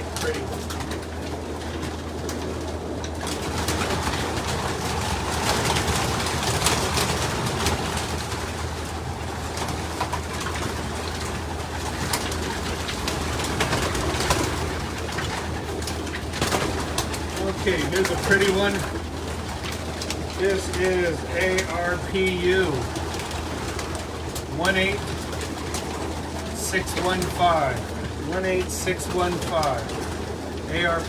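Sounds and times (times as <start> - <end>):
birds scuffling: 0.0 - 31.0
pigeons cooing: 0.0 - 31.0
wings flapping and clapping: 0.0 - 31.0.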